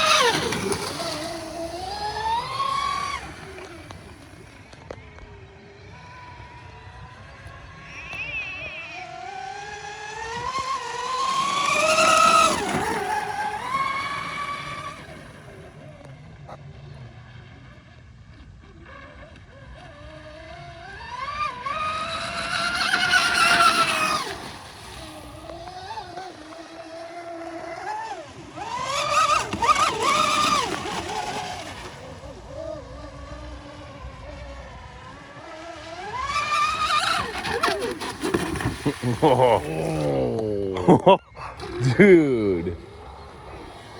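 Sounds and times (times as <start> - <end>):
rc speedboat motor whine: 0.0 - 43.9.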